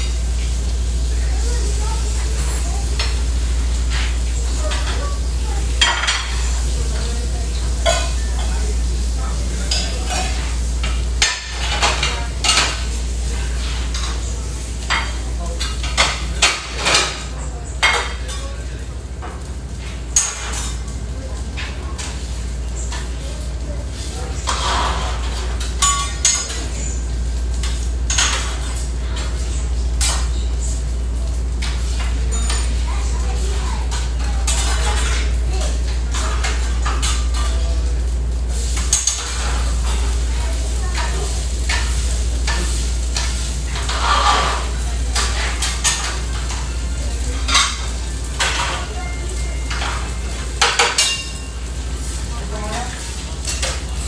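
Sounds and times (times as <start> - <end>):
food frying on a grill: 0.0 - 54.0
metal utensils and dishes clattering: 3.9 - 8.6, 9.4 - 23.4, 24.0 - 30.7, 31.6 - 37.9, 38.6 - 54.0.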